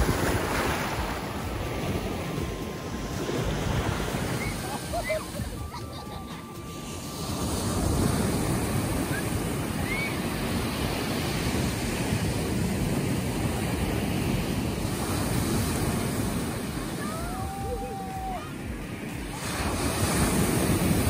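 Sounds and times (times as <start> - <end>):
waves breaking on sand: 0.0 - 21.0.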